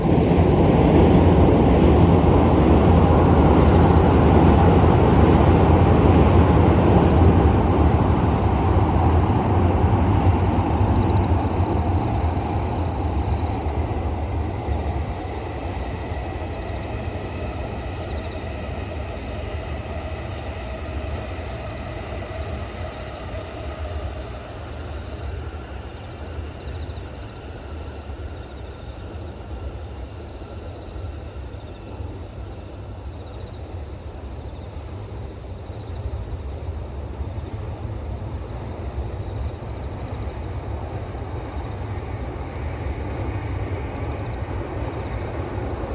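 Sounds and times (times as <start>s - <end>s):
train passing: 0.0s - 45.9s.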